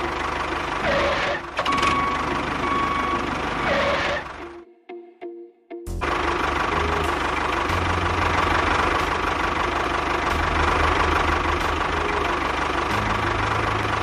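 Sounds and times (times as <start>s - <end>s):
engine running steadily: 0.0s - 4.6s, 5.9s - 14.0s.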